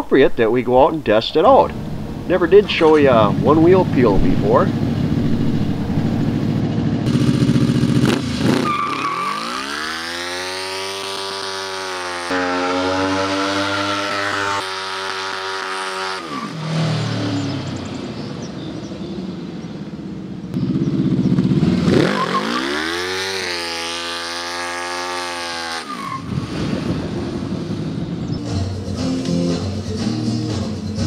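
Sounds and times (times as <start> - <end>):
motorcycle engine revving: 1.7 - 29.8.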